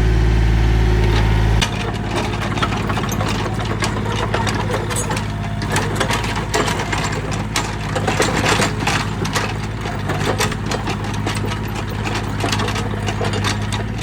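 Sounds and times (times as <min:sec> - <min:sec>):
excavator diesel engine running: 0:00.0 - 0:14.0
machine clanks and knocks: 0:01.0 - 0:14.0.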